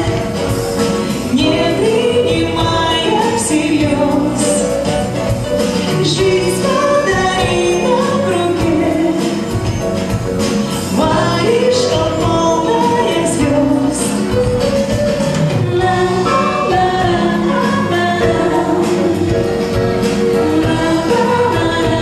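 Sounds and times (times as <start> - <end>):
woman singing: 0.0 - 5.2, 5.8 - 9.8, 10.8 - 14.6, 15.5 - 22.0
electronic drum kit: 0.0 - 22.0.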